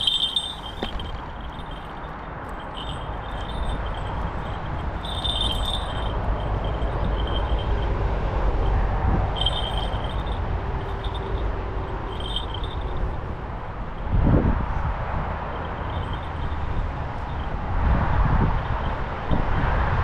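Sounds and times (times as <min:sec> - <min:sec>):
small bells jingling: 0:00.0 - 0:14.8, 0:15.5 - 0:17.8
wind rumbling on microphone: 0:00.0 - 0:20.0.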